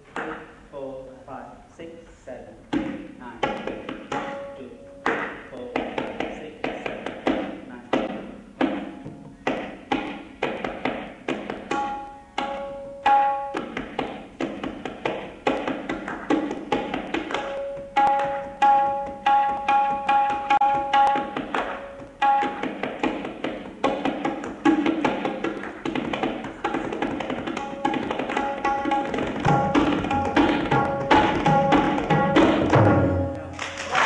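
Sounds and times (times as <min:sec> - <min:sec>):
tabla drumming: 0:00.0 - 0:00.6, 0:02.7 - 0:34.0.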